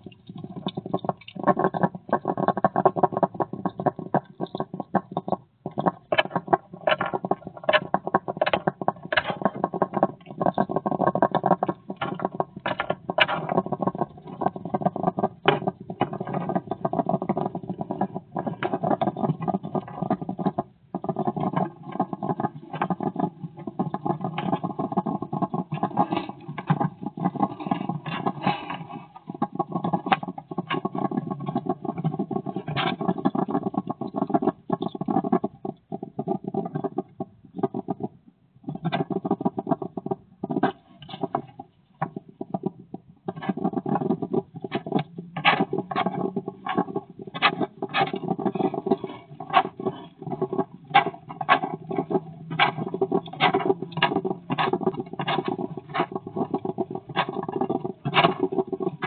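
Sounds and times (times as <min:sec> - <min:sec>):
hedgehog chewing and smacking: 0:00.0 - 0:38.2, 0:41.2 - 0:59.0.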